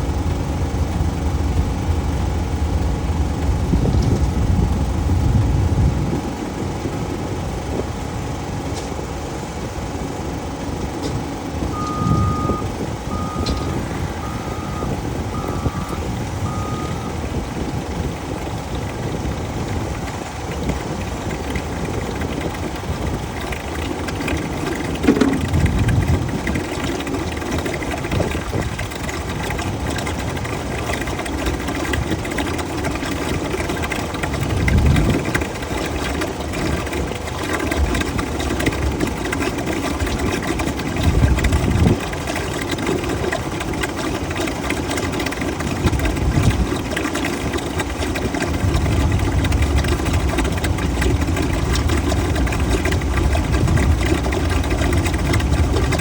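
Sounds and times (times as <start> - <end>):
vacuum unit droning: 0.0 - 56.0.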